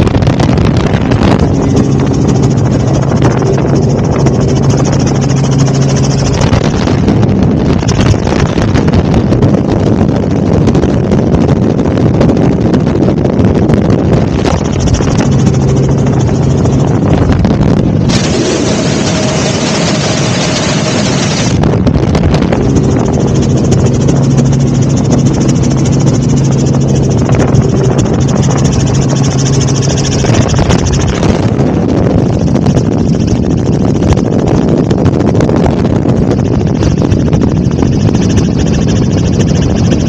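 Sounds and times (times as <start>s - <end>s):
helicopter engine and rotor: 0.0s - 40.0s.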